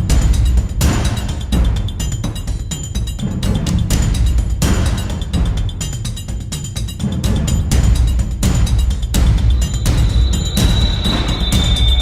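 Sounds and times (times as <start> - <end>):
music with heavy drum beat: 0.0 - 12.0.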